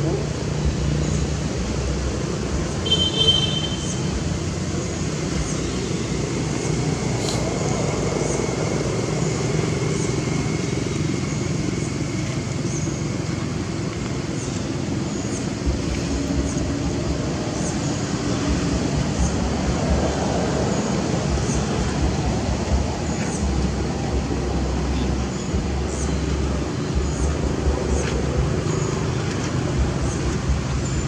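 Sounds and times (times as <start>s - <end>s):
rumbling road traffic: 0.0s - 31.0s.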